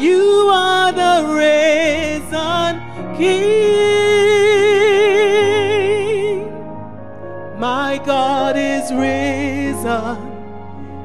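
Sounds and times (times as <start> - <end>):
woman singing into a microphone: 0.0 - 6.6, 7.6 - 10.8
soft instrumental accompaniment: 0.0 - 11.0.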